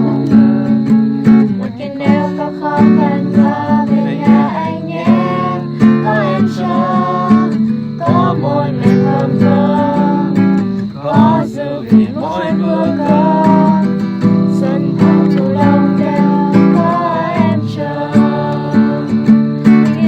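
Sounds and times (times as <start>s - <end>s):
acoustic guitar strumming chords: 0.0s - 20.0s
person singing: 0.0s - 20.0s.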